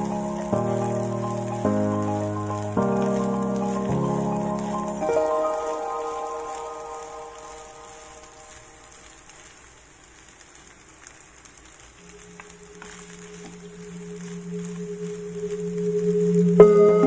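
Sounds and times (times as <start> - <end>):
background music: 0.0 - 9.1, 12.2 - 17.0
music of sustained tones: 0.0 - 9.4, 12.0 - 17.0
rice sizzling in a pan: 0.0 - 17.0.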